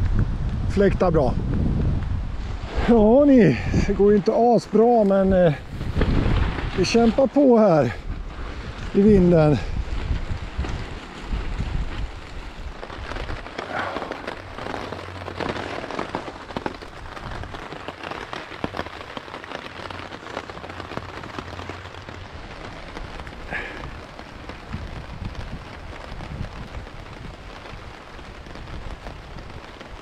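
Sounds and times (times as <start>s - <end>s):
low wind rumble: 0.0s - 30.0s
rain pattering on a tarp: 0.0s - 30.0s.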